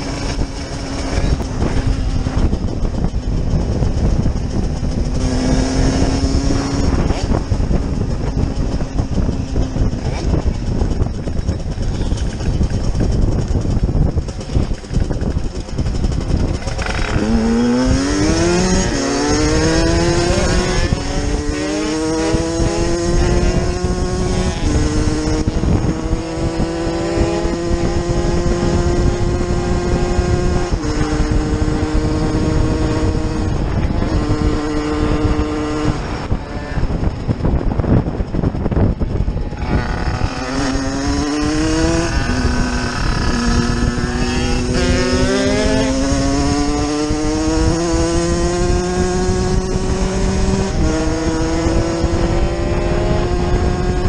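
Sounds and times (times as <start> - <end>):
motorcycle engine accelerating: 0.0 - 54.0
wind rushing: 0.0 - 54.0.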